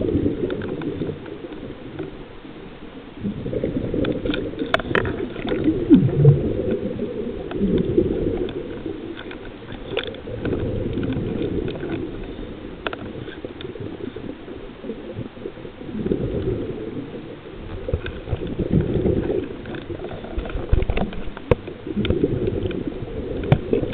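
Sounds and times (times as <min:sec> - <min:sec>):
underwater rumble of moving water: 0:00.0 - 0:23.9
faint clicks: 0:00.1 - 0:03.1, 0:03.9 - 0:23.9.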